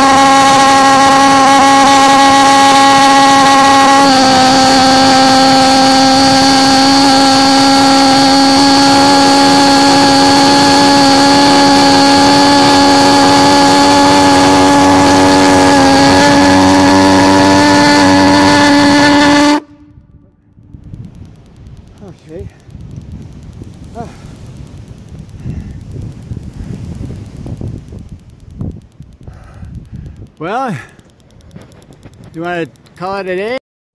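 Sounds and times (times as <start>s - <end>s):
pulse jet engine buzzing drone: 0.0s - 33.1s.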